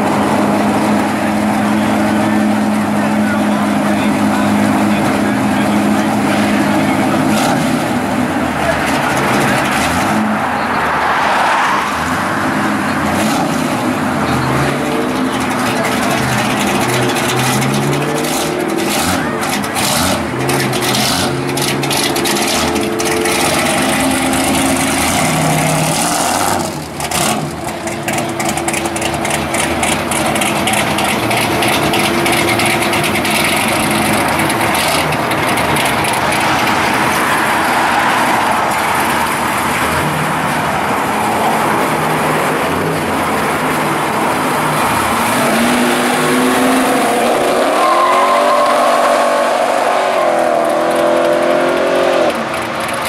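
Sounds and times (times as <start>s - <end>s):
cars driving past slowly: 0.0s - 53.0s
engine revving: 0.0s - 53.0s.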